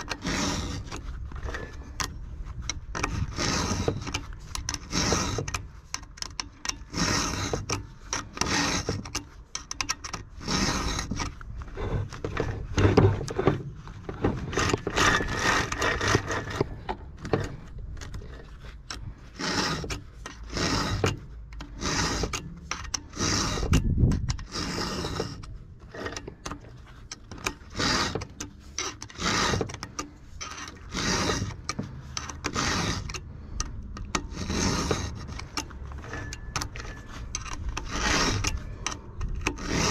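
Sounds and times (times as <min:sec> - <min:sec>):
file rasping on chain: 0:00.0 - 0:39.9.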